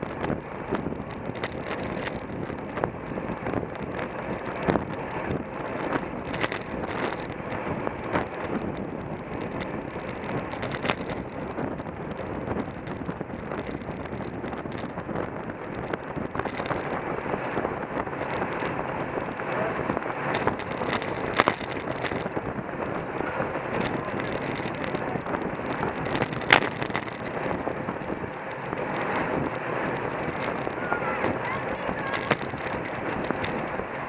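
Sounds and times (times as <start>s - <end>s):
bicycle road and drivetrain noise: 0.0s - 34.0s
wind rushing over microphone: 0.0s - 34.0s.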